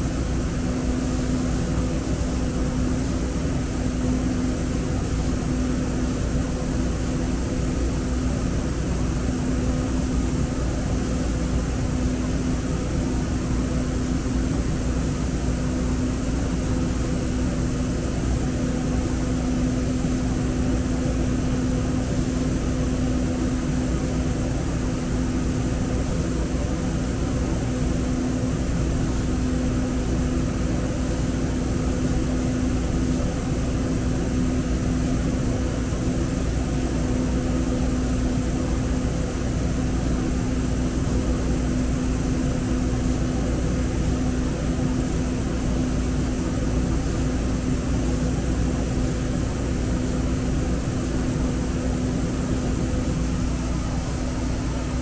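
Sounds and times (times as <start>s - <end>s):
rail car ventilation hum: 0.0s - 55.0s.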